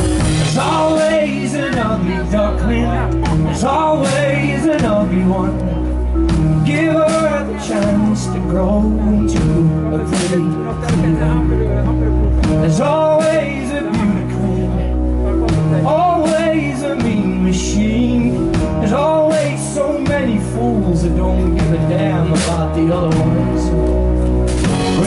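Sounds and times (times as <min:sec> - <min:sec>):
live band playing: 0:00.0 - 0:25.0
man singing: 0:00.0 - 0:25.0.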